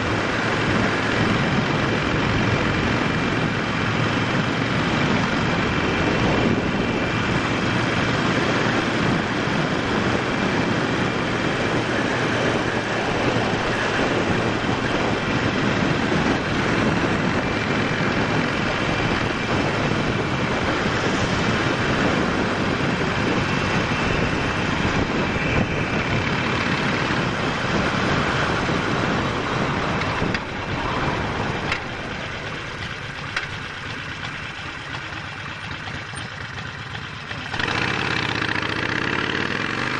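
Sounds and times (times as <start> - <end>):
wind rush: 0.0 - 35.9
motorcycle engine running: 0.0 - 39.9.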